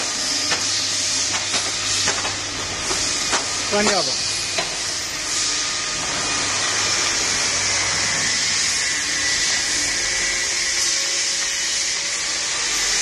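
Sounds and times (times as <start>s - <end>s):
machine high hiss: 0.0s - 13.0s.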